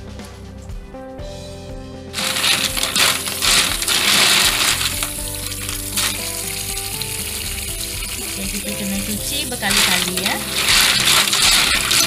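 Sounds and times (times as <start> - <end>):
snail shells clattering in sink: 2.2 - 12.0
tap water rushing: 2.2 - 12.0.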